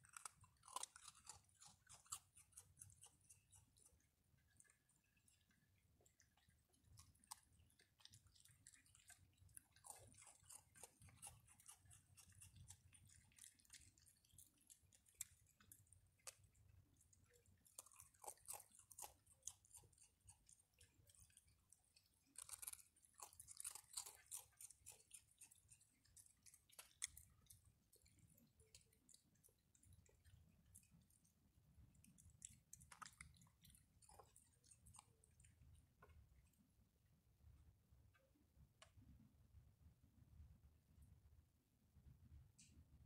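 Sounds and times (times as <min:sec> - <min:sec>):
animals crunching dry food: 0:00.0 - 0:36.7.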